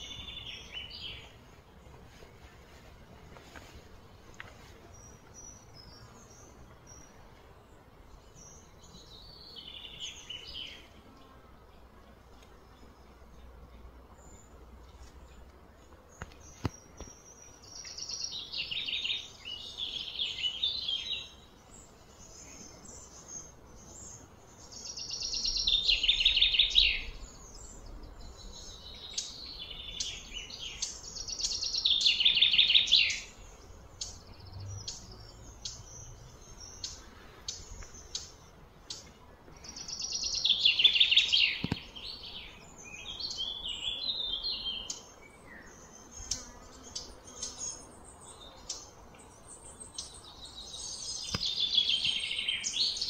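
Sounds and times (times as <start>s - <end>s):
bird singing pulsed phrases: 0.0s - 1.7s, 4.8s - 11.9s, 16.1s - 53.0s.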